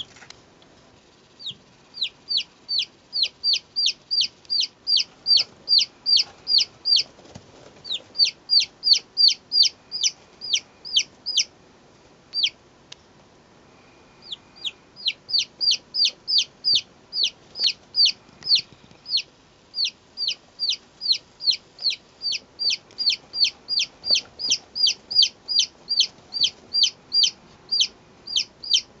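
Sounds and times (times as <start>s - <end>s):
chicks peeping: 1.2s - 11.6s, 12.3s - 12.6s, 14.2s - 29.0s.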